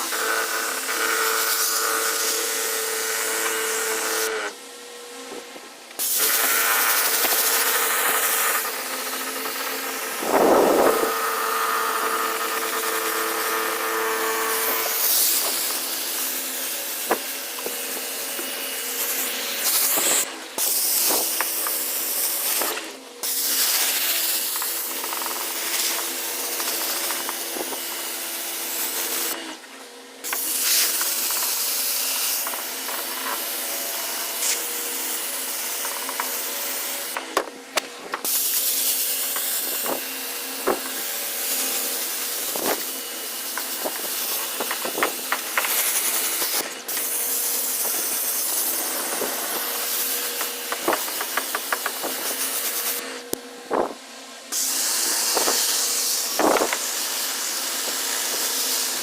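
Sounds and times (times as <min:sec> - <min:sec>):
garden sprayer hissing: 0:06.0 - 0:29.4, 0:30.2 - 0:37.3, 0:38.2 - 0:53.9, 0:54.5 - 0:59.0.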